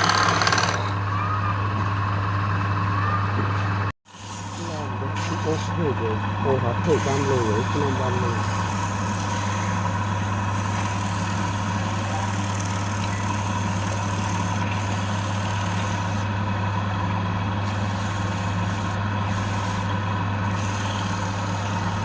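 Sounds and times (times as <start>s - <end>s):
wood lathe motor humming: 0.0s - 1.1s, 4.1s - 22.0s.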